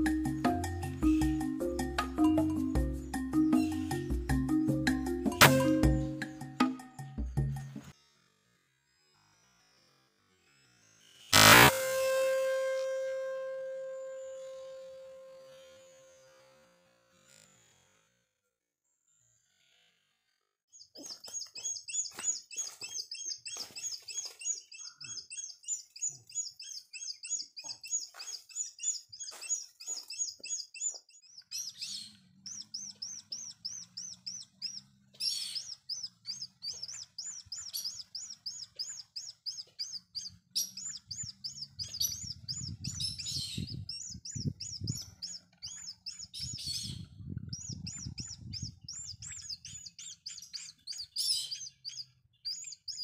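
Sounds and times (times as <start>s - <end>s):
bird calling high repeated notes: 0.0s - 6.5s, 11.3s - 15.8s, 21.0s - 53.0s.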